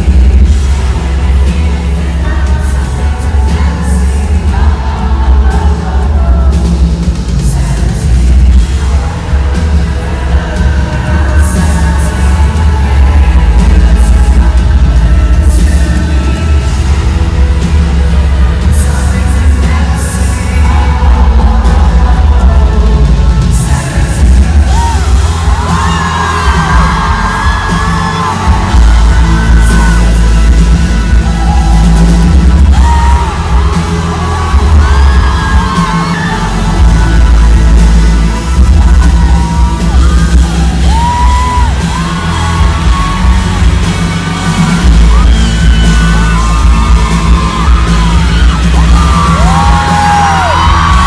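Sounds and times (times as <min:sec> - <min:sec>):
amplified pop music with bass: 0:00.0 - 0:51.0
fans yelling and whooping: 0:00.0 - 0:51.0
person singing: 0:00.0 - 0:51.0.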